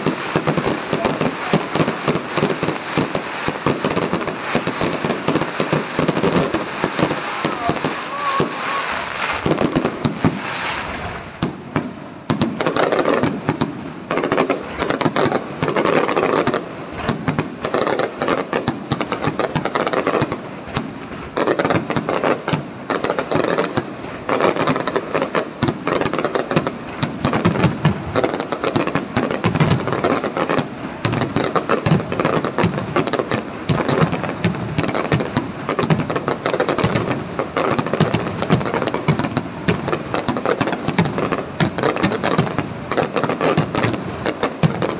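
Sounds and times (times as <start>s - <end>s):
fireworks bursting and crackling: 0.0s - 44.9s.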